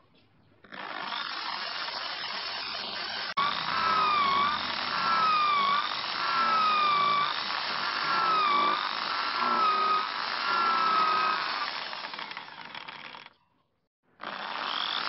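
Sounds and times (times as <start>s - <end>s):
electric drill whining: 0.6s - 13.4s, 14.2s - 15.0s.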